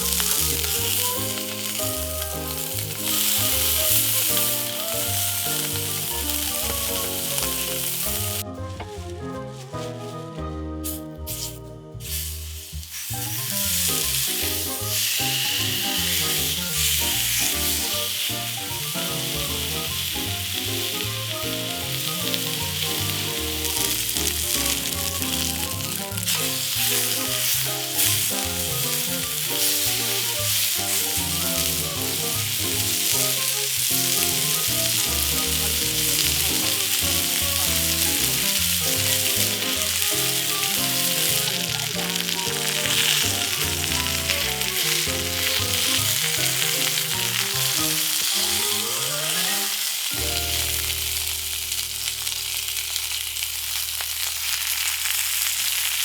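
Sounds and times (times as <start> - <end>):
food sizzling in a pan: 0.0 - 8.4, 10.8 - 56.0
background music: 0.0 - 53.8.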